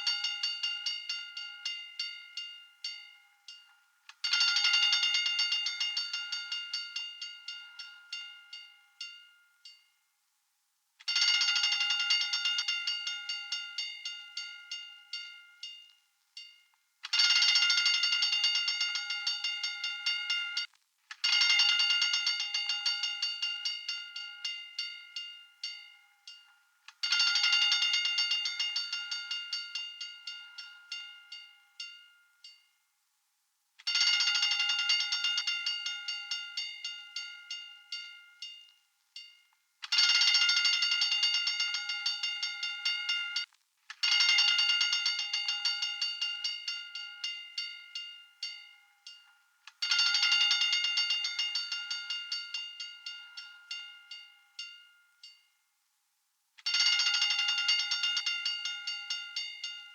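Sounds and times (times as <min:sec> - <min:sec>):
fire alarm bell ringing: 0:00.0 - 0:09.8, 0:11.1 - 0:32.6, 0:33.9 - 0:55.4, 0:56.7 - 0:59.9.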